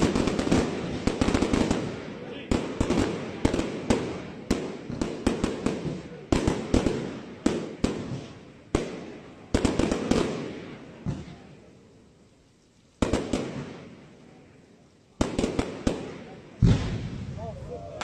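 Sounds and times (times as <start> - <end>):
firework bangs with rolling echo: 0.0 - 12.0, 13.0 - 18.0.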